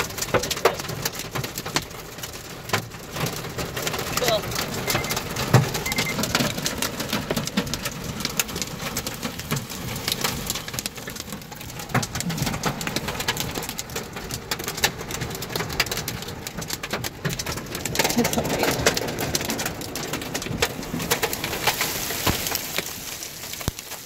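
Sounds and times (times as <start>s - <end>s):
hail on car roof: 0.0s - 24.0s
heavy rain rushing: 0.0s - 24.0s.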